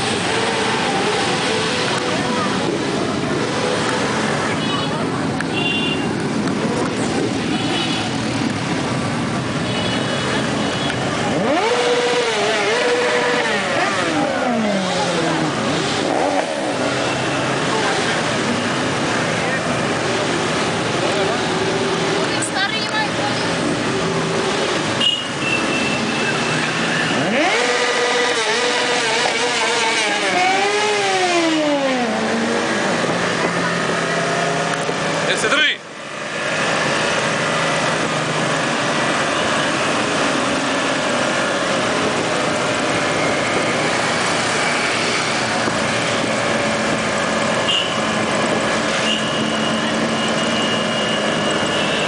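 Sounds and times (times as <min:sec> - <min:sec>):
motorcycle engines running: 0:00.0 - 0:52.0
motorcycle revving: 0:00.0 - 0:52.0.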